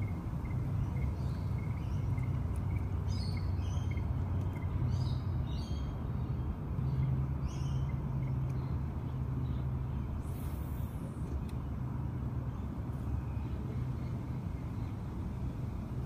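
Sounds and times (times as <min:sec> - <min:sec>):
birds chirping: 0:00.0 - 0:16.0
low rumble of traffic: 0:00.0 - 0:16.0.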